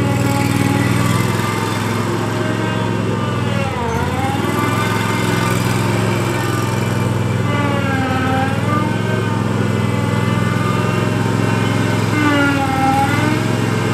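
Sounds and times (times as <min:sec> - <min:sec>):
mower engine running: 0:00.0 - 0:13.9.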